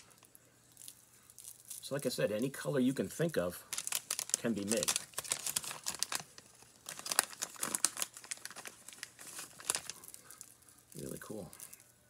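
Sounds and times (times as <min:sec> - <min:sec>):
plastic packaging crinkling: 0:00.0 - 0:02.5, 0:03.6 - 0:12.0.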